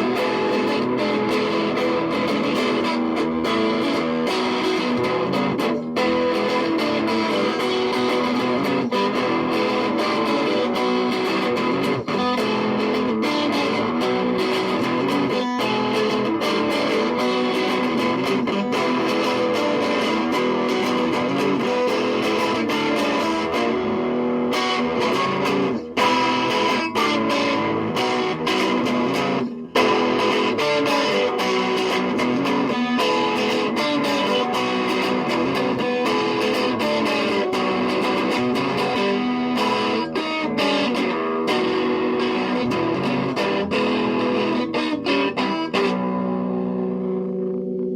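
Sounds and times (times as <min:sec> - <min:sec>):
guitar background music: 0:00.0 - 0:47.9.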